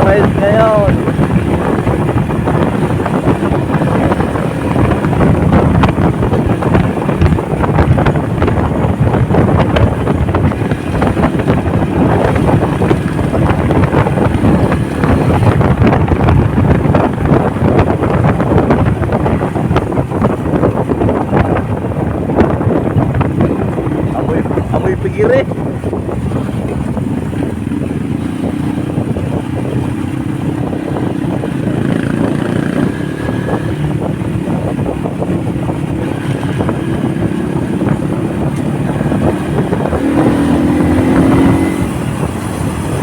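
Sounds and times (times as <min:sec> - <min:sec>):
motorcycle engine running: 0:00.0 - 0:43.0
wind buffeting microphone: 0:00.0 - 0:43.0.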